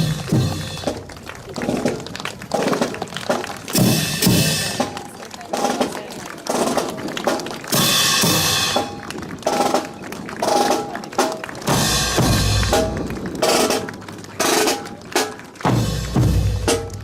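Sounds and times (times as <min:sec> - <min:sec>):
band music with drums: 0:00.0 - 0:17.0.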